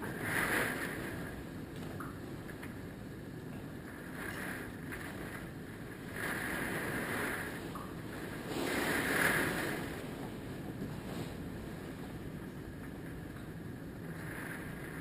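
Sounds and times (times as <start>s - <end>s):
hurricane wind gusting: 0.0s - 15.0s.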